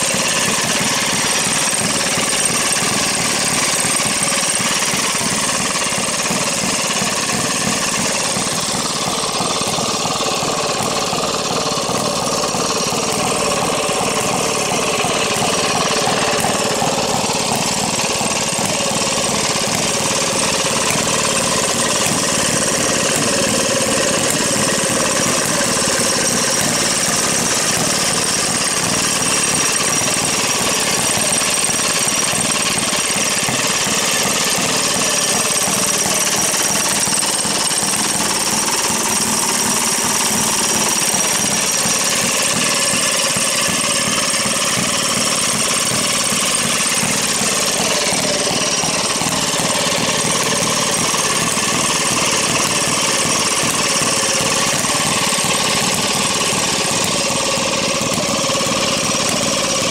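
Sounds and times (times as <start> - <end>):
two-stroke engines popping: 0.0 - 59.9.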